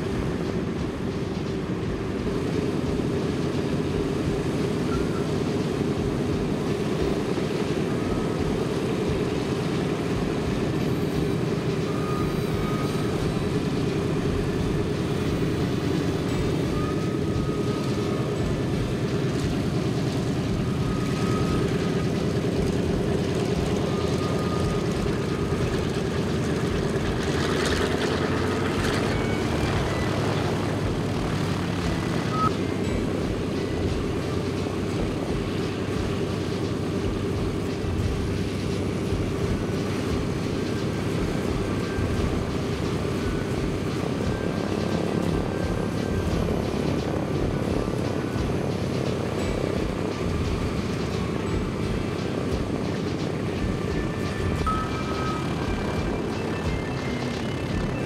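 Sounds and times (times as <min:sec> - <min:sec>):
radial piston engines droning: 0:00.0 - 0:58.0
rush of noise: 0:00.0 - 0:58.0.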